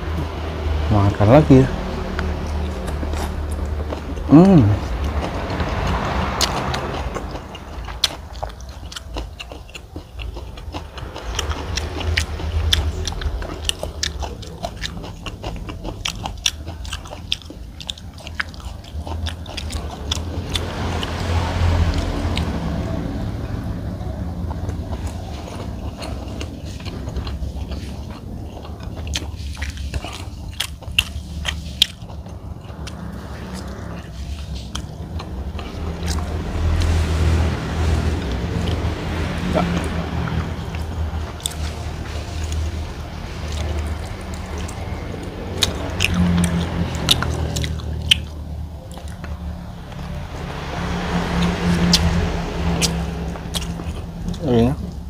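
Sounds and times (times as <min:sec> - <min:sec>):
steady low hum: 0:00.0 - 0:55.0
person chewing food: 0:01.6 - 0:55.0.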